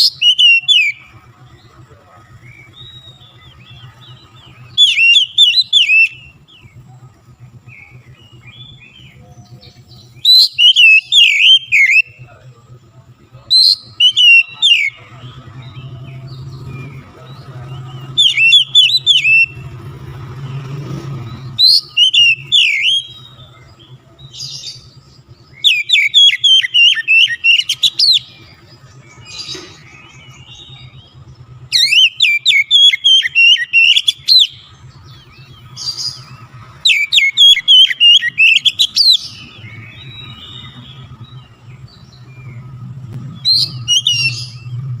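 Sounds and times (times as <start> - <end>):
bird singing high rapid notes: 0.0 - 45.0.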